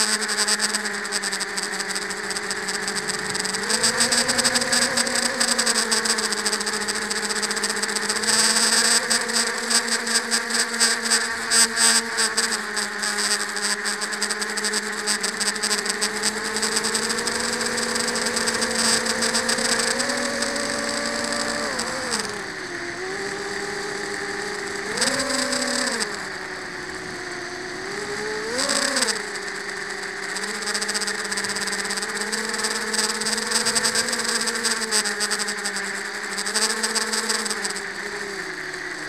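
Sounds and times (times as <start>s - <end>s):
drone motors and propellers whining: 0.0s - 39.0s.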